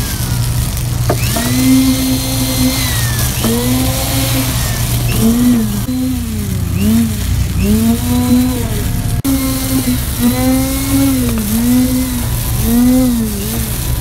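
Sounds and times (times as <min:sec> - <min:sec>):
concrete vibrator whining: 0:00.0 - 0:14.0
excavator engine running: 0:00.0 - 0:14.0.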